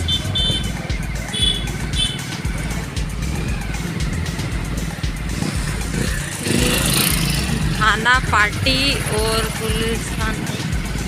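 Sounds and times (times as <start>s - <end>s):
high-pitched tones: 0.0s - 11.0s
road vehicle engine rumble: 0.0s - 11.0s.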